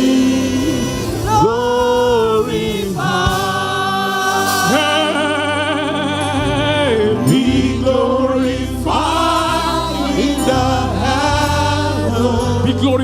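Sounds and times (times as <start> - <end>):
choir and congregation singing: 0.0 - 13.0
steady bass accompaniment: 0.0 - 13.0.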